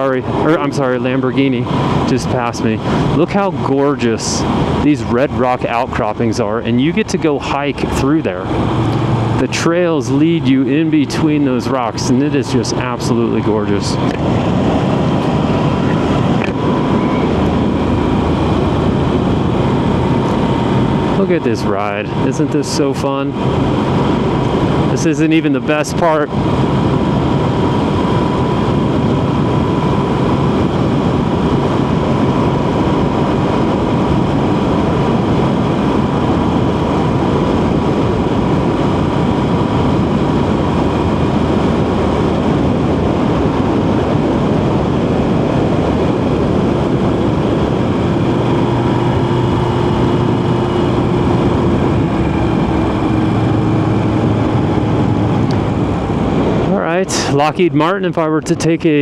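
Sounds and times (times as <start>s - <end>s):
wind on microphone: 0.0s - 58.8s
motorcycle engine droning: 0.0s - 59.0s.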